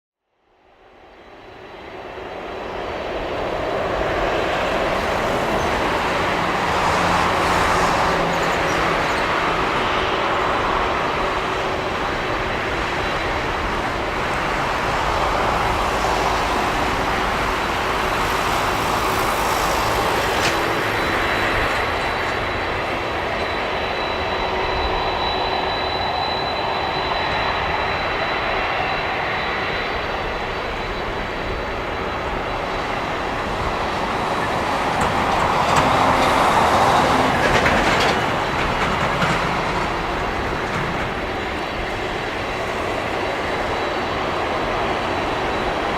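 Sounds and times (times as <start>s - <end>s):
high jet engine whine: 0.3s - 45.9s
jet engines roaring: 0.9s - 45.9s.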